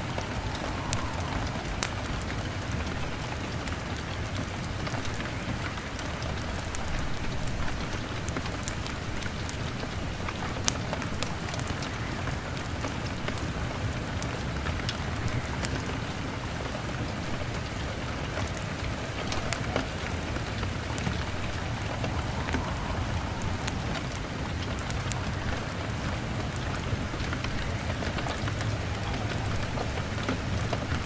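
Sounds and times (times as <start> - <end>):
heavy rain on a window: 0.0 - 31.0
log fire crackling: 0.0 - 31.0.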